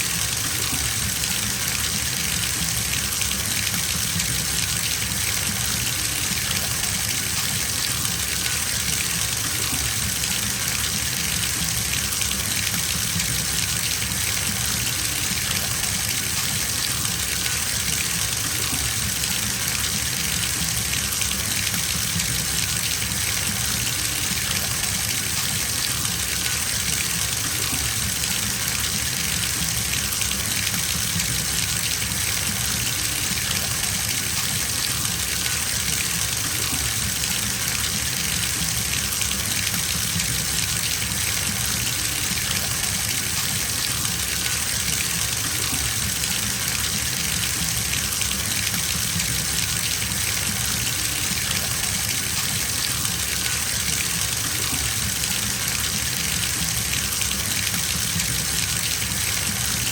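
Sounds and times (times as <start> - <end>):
water gushing from tap into bathtub: 0.0 - 59.9.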